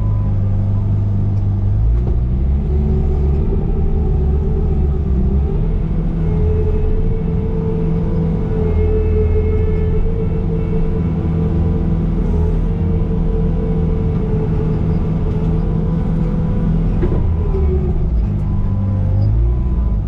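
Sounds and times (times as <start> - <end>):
skid steer engine drone: 0.0 - 20.0.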